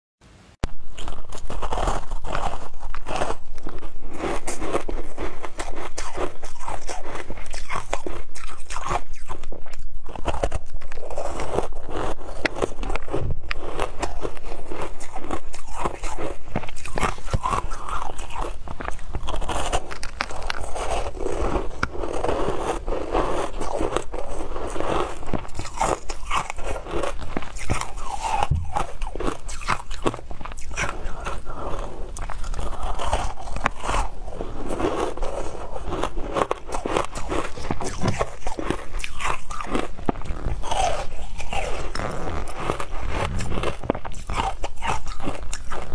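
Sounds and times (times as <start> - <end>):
chewing crunchy shaved ice: 0.7 - 45.9.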